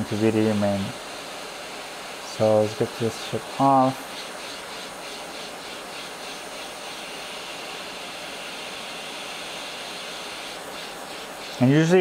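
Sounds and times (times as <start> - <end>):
hot air station hissing: 0.0 - 12.0.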